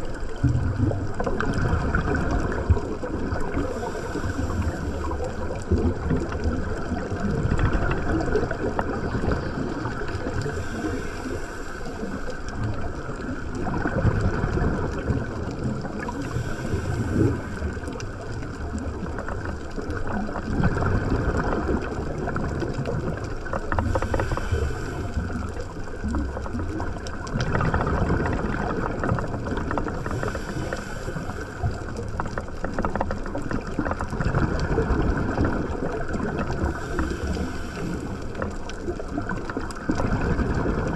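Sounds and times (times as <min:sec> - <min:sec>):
muffled underwater water rush: 0:00.0 - 0:40.9.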